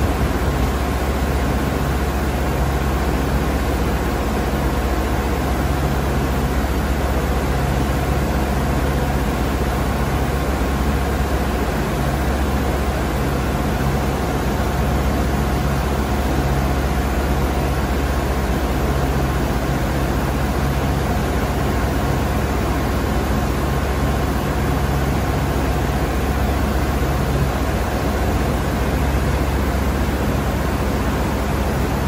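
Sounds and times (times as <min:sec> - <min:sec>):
boring mill machine hum: 0:00.0 - 0:32.0
faint steady whine: 0:00.0 - 0:32.0.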